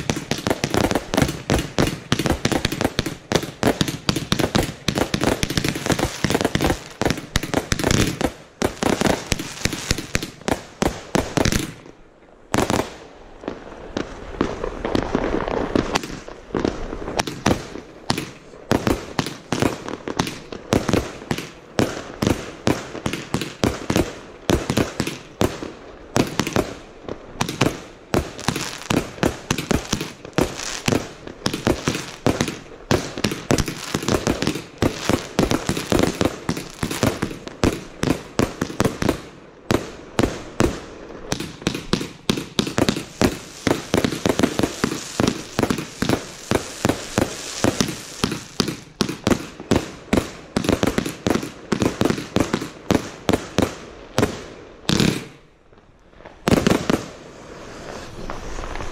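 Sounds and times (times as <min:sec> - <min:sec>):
firework barrage firing: 0:00.0 - 0:11.9, 0:12.5 - 0:55.4, 0:56.3 - 0:58.9.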